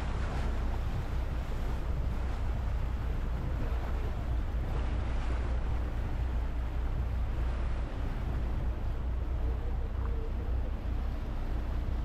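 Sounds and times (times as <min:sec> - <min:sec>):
motorboat engine rumbling: 0:00.0 - 0:12.0
water rushing along hull: 0:00.0 - 0:12.0
wind on microphone: 0:00.0 - 0:12.0.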